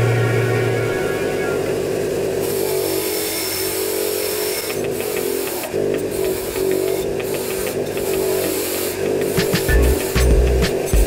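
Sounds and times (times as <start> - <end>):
bench grinder motor humming: 0.0 - 11.0.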